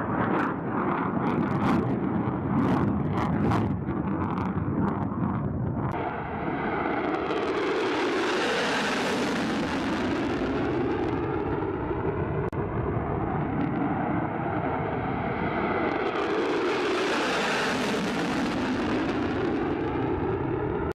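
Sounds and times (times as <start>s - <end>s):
fighter jet flying past: 0.0s - 20.9s.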